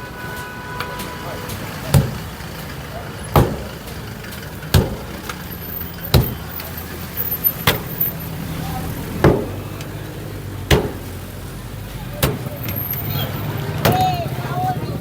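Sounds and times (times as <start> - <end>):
engine running: 0.4 - 15.0.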